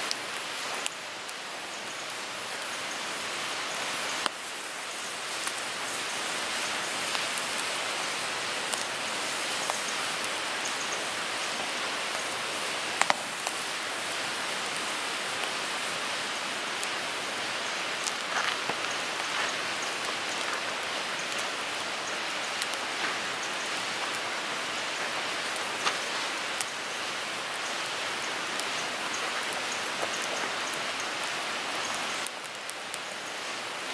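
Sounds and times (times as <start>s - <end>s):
fire crackles and pops: 0.0s - 33.9s
wood fire hissing: 0.0s - 33.9s.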